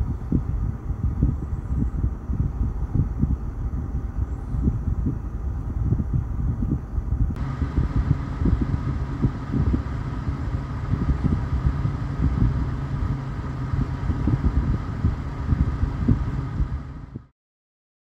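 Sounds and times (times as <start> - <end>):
faint fan whine: 0.0 - 17.3
fans rushing air: 0.0 - 17.3
low rumble: 0.0 - 17.3.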